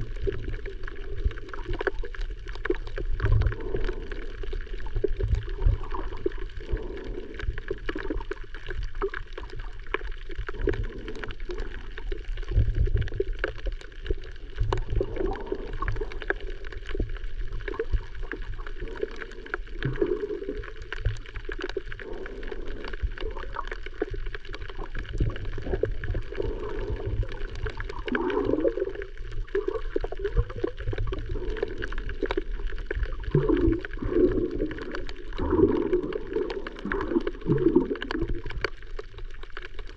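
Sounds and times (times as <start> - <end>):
muffled underwater sloshing: 0.0 - 39.9.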